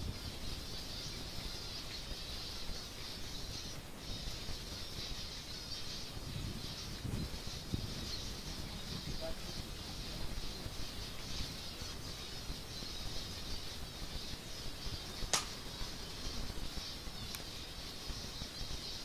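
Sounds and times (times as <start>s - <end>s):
finches twittering: 0.0s - 19.0s.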